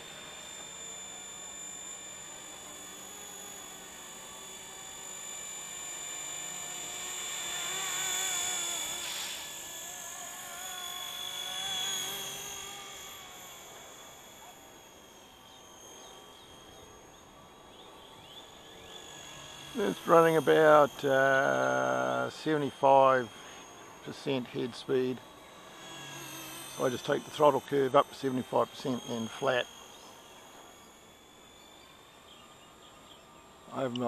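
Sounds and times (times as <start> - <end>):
rc helicopter whine: 0.0 - 34.0.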